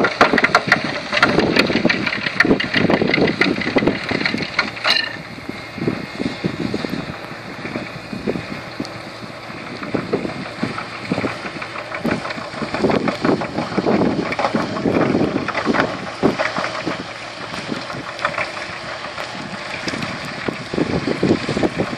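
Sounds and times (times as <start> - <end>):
tractor engine running: 0.0 - 21.9
wind buffeting microphone: 0.0 - 21.9.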